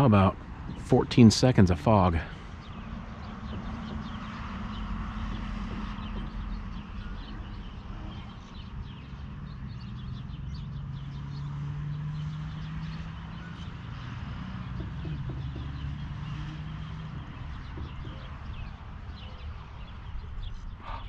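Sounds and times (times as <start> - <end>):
truck engine humming: 0.0 - 20.3
birds chirping: 0.0 - 21.0.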